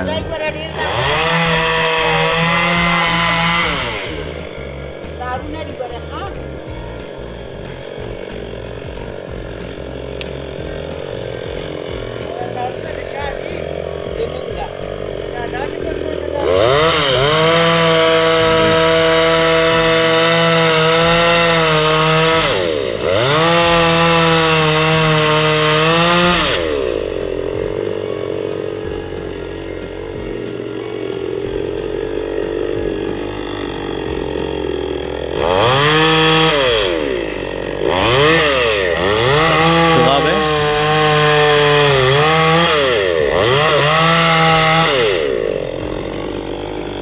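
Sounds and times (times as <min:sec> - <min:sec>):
chainsaw revving: 0:00.0 - 0:47.0.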